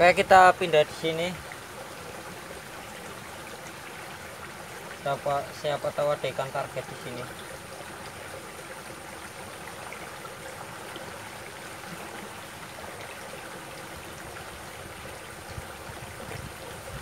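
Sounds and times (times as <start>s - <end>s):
stream running over rocks: 0.0s - 17.0s
water trickling through cascades: 0.0s - 17.0s.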